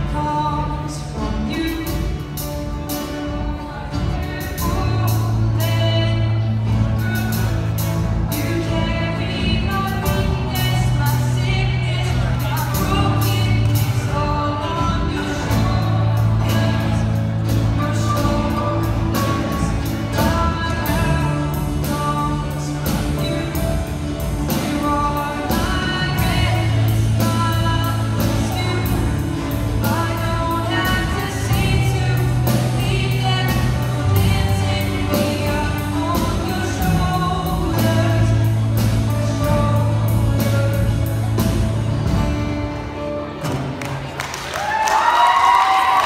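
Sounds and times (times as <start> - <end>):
person singing: 0.0 - 43.4
low bass notes: 0.0 - 44.2
live band playing: 0.0 - 46.0.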